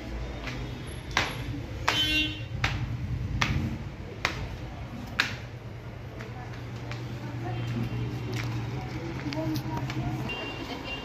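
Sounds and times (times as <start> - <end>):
footsteps on stone floor: 0.0 - 11.0.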